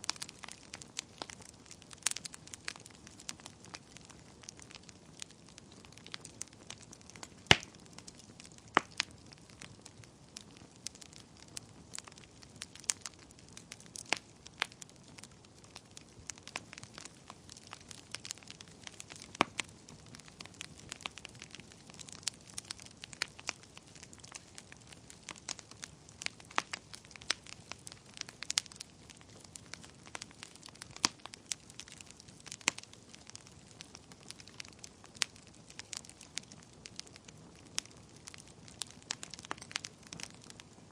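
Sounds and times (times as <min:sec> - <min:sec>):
faint steady hiss: 0:00.0 - 0:40.9
fire crackling and popping: 0:00.0 - 0:40.9.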